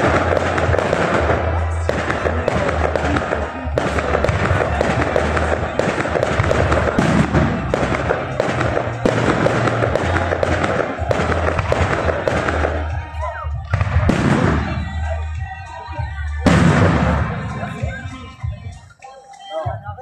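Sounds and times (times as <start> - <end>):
fireworks bursting and crackling: 0.0 - 19.6.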